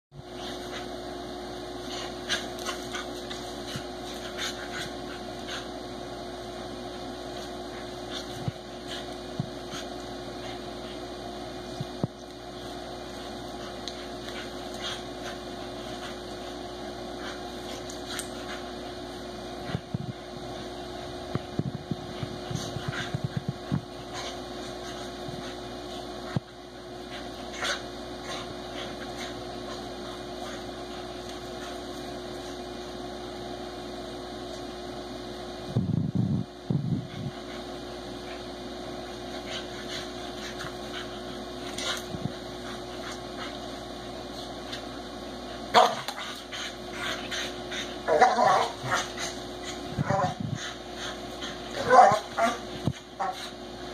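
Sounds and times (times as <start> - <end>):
background hum: 0.2 - 53.9.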